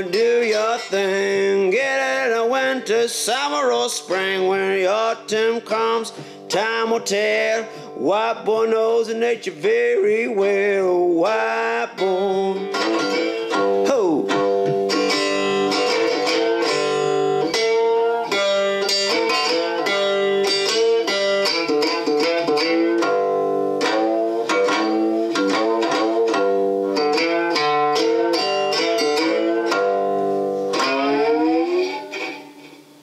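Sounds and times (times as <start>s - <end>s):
slide resonator guitar: 0.0s - 33.0s.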